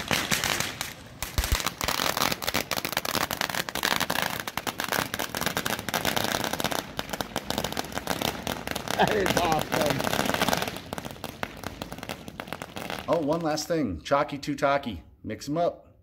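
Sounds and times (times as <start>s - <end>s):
fireworks crackling with sharp pops: 0.0s - 13.8s.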